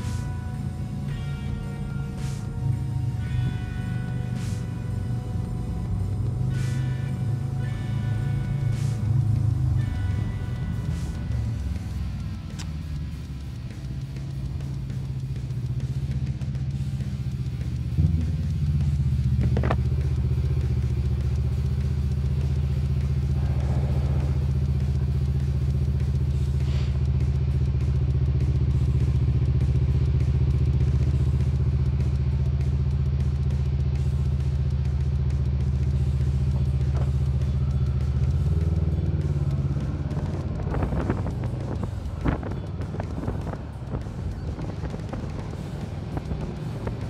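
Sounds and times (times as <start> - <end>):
motorcycle engine droning: 0.0 - 47.0.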